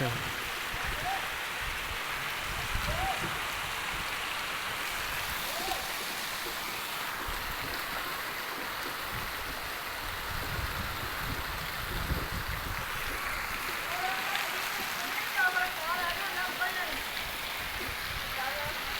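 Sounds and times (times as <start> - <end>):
steady rain falling: 0.0 - 18.9.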